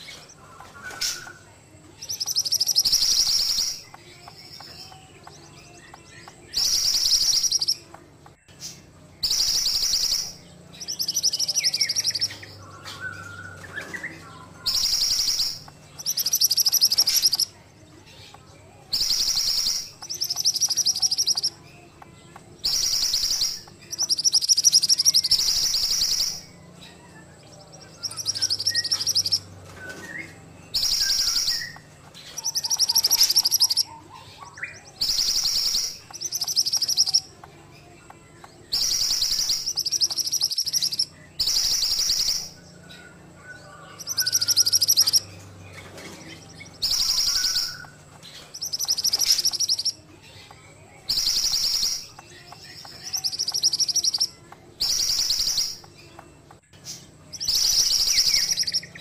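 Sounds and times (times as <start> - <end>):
songbird singing high fast phrases: 0.0 - 59.0.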